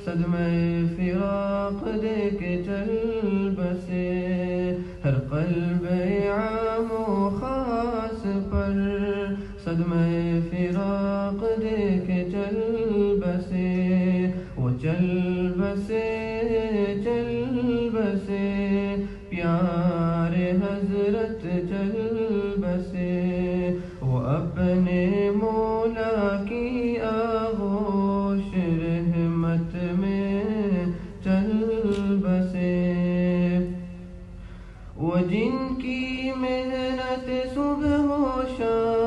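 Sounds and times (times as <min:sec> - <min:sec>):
man singing unaccompanied: 0:00.0 - 0:34.1, 0:35.0 - 0:39.0.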